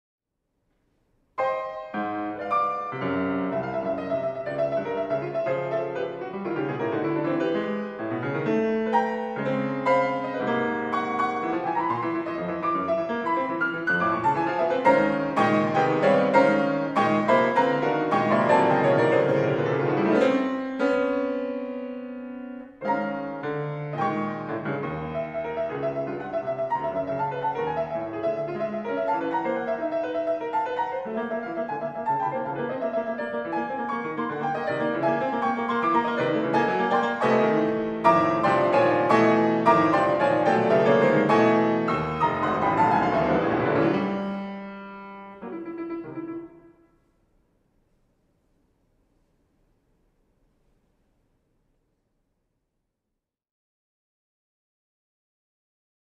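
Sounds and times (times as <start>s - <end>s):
solo piano playing: 1.4s - 47.0s.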